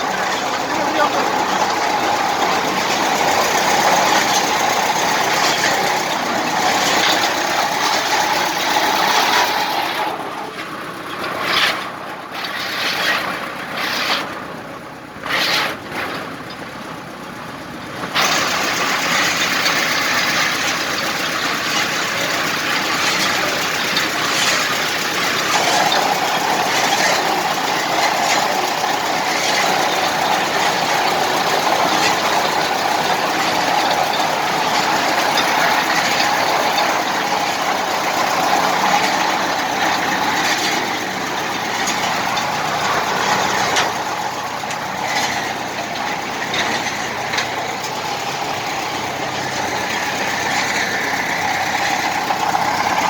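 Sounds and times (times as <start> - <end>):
drilling rig engine running: 0.0 - 53.0.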